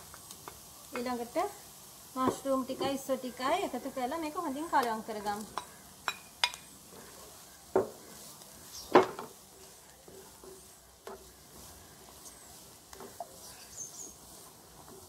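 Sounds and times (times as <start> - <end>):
faint sizzle: 0.0 - 15.0
spatula stirring in a wok: 0.0 - 15.0.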